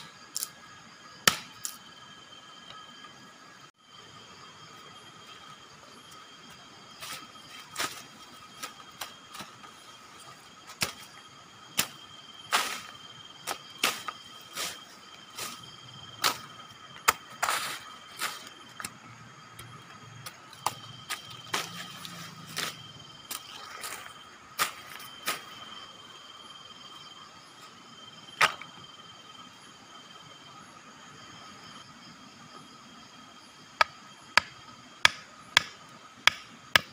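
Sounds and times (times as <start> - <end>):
insects chirring at night: 0.0 - 36.9.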